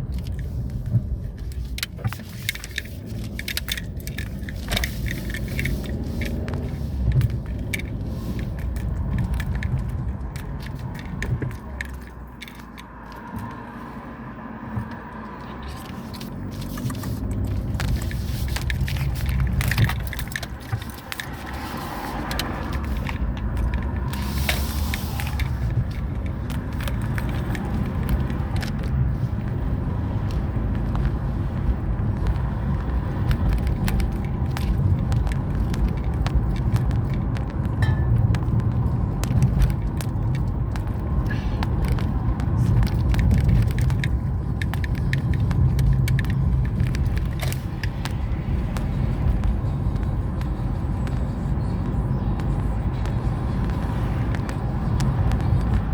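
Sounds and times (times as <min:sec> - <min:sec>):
small rattles and clicks: 0:00.0 - 0:13.6, 0:14.8 - 0:55.9
car engine and road rumble: 0:00.0 - 0:55.9.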